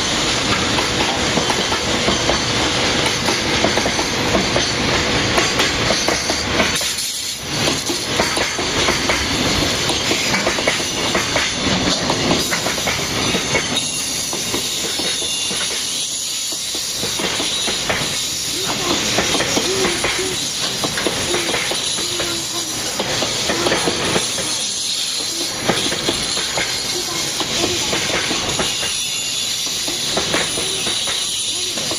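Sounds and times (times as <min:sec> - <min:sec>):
rumbling rail noise: 0:00.0 - 0:31.9
train wheels clacking on rail joints: 0:00.0 - 0:31.9.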